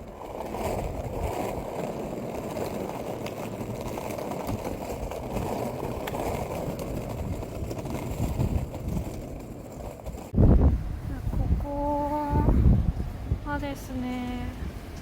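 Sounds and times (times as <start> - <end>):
skateboard wheels rumbling on pavement: 0.0 - 15.0
wind buffeting microphone: 0.0 - 15.0.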